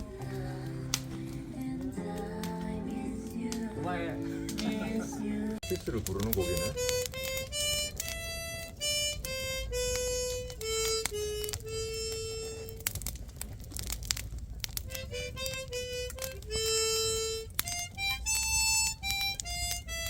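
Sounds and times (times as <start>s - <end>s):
slow melody of held notes: 0.0s - 13.2s, 14.8s - 20.0s.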